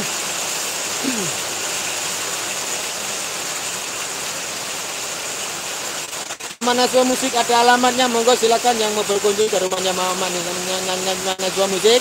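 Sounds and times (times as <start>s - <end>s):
heavy rain on a metal roof: 0.0s - 12.0s.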